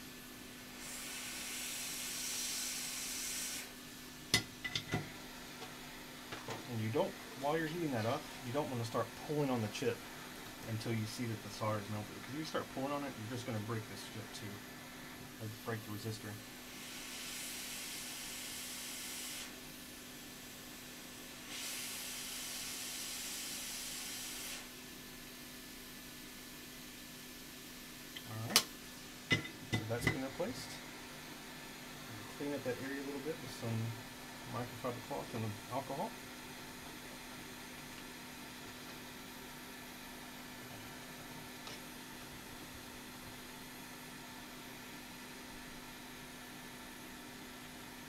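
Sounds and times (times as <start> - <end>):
faint steady hum: 0.0 - 48.0
hot air blower hissing: 0.0 - 48.0.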